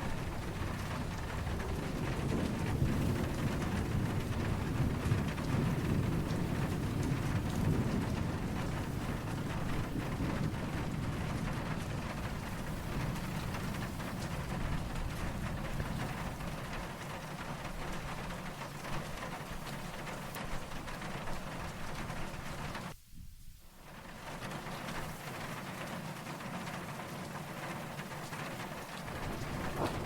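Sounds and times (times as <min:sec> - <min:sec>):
distant thunder rumbling: 0:00.0 - 0:23.0, 0:23.9 - 0:30.0
steady rain falling: 0:00.0 - 0:30.0.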